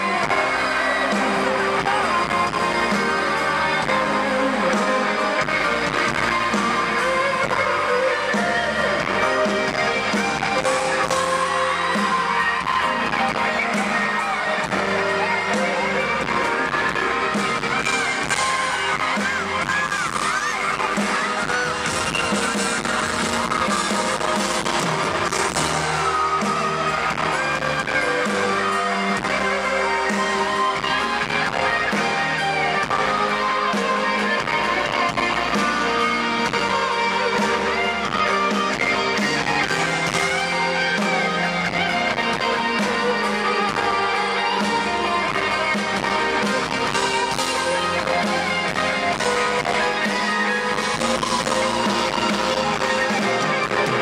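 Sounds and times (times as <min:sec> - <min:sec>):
crowd cheering: 0:00.0 - 0:54.0
pop song with singing: 0:00.0 - 0:54.0.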